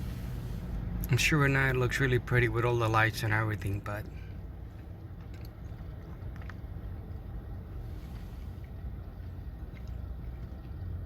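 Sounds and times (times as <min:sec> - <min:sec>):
pickup truck engine rumble: 0:00.0 - 0:11.0
road noise: 0:00.0 - 0:11.0.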